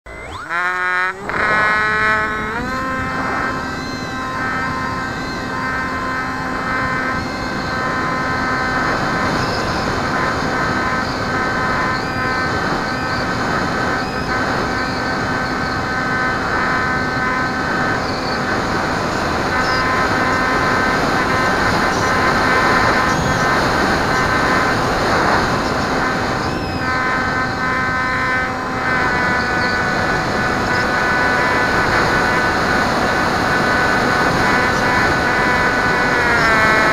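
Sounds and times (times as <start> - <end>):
electric motor whining: 0.0 - 36.9
wind noise on microphone: 0.1 - 36.9.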